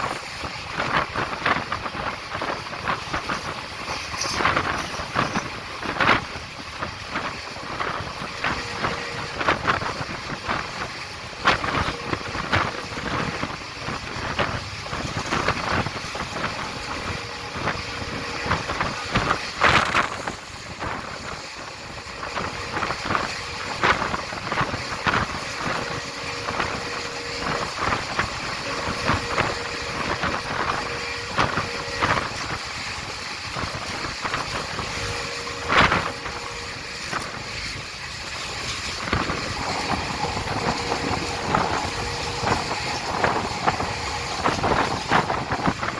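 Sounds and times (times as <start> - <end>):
train rolling rumble: 0.0 - 45.9
wheels clicking over track: 0.0 - 45.9.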